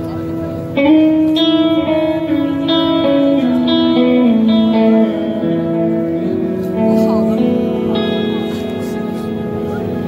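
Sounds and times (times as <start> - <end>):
amplified guitars playing melody: 0.0 - 10.0.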